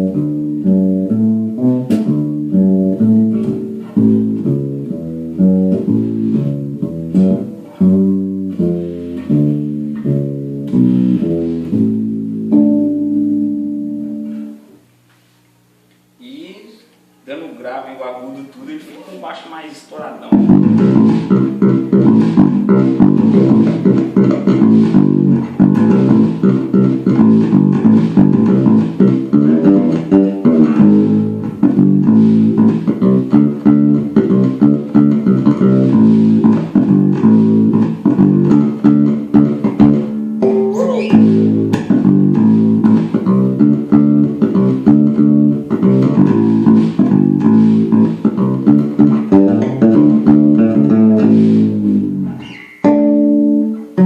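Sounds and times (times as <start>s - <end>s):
overdriven fretless bass notes: 0.0s - 14.9s, 20.2s - 54.0s.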